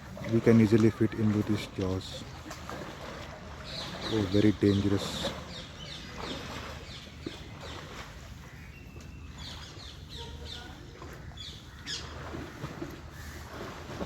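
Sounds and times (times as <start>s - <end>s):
birds chirping: 0.0s - 13.6s
outdoor background noise: 0.0s - 14.0s.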